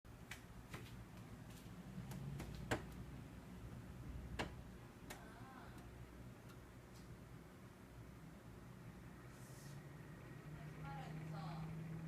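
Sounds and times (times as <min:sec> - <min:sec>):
low steady hum: 0:00.1 - 0:12.0.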